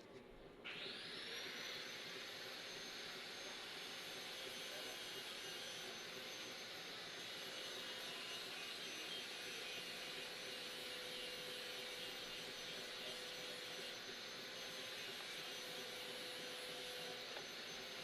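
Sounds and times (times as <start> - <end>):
electric motor whining: 0.7 - 18.0.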